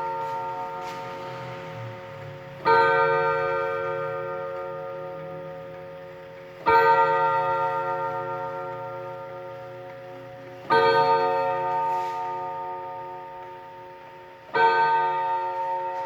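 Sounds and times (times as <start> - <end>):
wall clock striking gong: 0.0 - 16.0.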